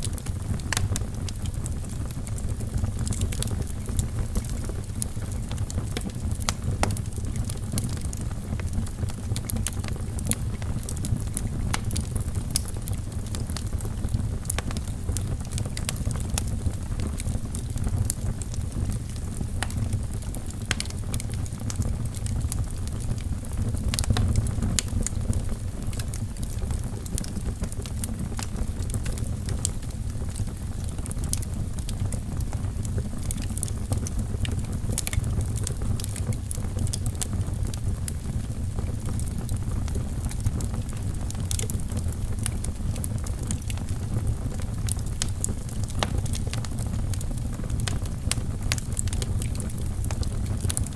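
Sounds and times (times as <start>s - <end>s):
fire rumbling in fireplace: 0.0s - 50.9s
logs crackling and popping: 0.0s - 50.9s.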